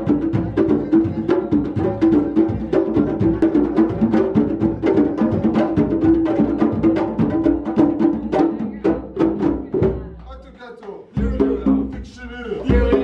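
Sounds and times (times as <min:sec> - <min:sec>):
hand drums playing fast rhythm: 0:00.0 - 0:13.0.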